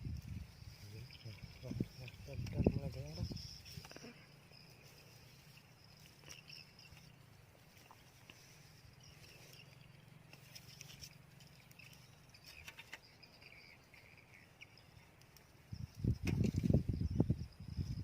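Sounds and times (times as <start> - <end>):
small ticks: 0.0 - 16.8
insects chirring: 0.0 - 18.0.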